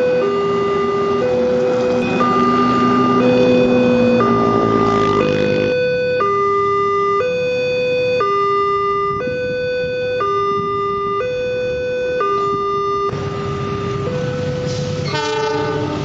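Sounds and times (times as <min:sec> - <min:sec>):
level crossing two-tone alarm: 0:00.0 - 0:14.7.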